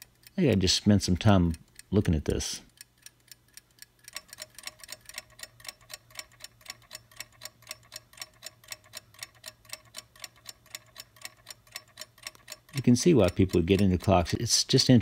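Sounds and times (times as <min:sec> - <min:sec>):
clock movement ticking: 0:00.0 - 0:15.0.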